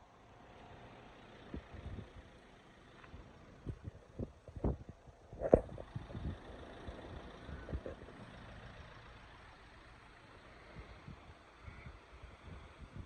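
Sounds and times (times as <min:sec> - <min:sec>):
road vehicle passing: 0:00.0 - 0:04.4, 0:05.5 - 0:13.0.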